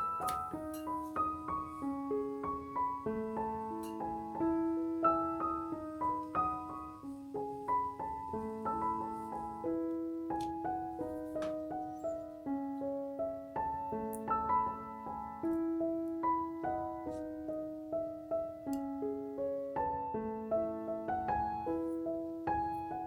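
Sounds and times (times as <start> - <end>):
gentle solo piano melody: 0.0 - 23.0.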